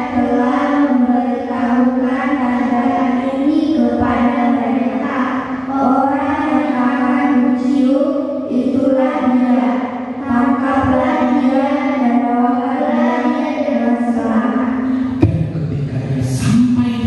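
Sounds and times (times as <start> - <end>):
children reading aloud in unison: 0.0 - 15.1.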